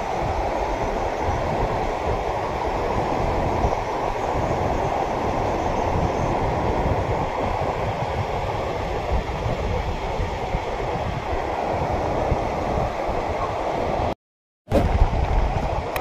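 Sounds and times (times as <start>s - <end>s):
water rushing through rapids: 0.0s - 14.2s.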